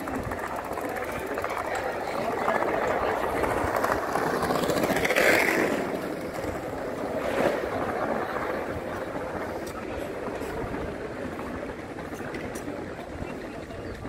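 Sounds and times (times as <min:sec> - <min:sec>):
murmur of many people talking: 0:00.0 - 0:14.0.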